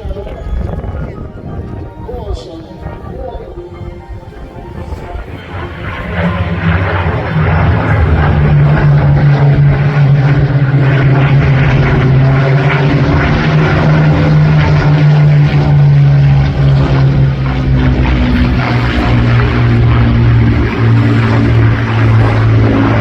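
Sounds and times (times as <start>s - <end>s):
propeller aircraft engine drone: 0.0s - 23.0s.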